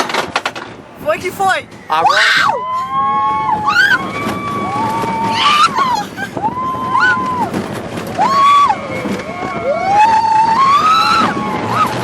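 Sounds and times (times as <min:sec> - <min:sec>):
roller coaster noise: 0:00.0 - 0:12.0
wind rushing: 0:00.6 - 0:12.0
riders screaming: 0:01.9 - 0:12.0.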